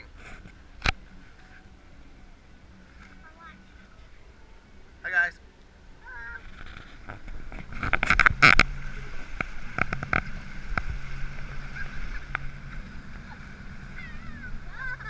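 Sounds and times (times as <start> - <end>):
engine hum from inside cab: 0.0 - 15.0
water rushing and splashing: 0.0 - 15.0.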